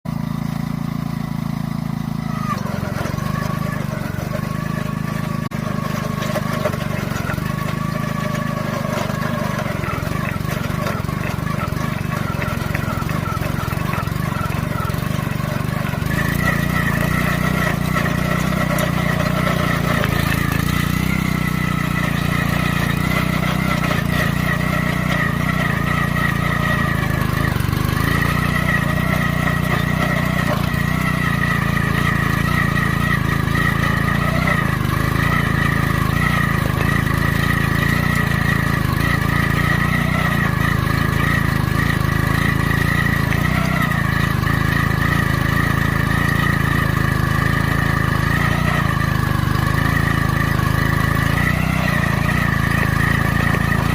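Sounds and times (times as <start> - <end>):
small petrol engine running: 0.0 - 53.9.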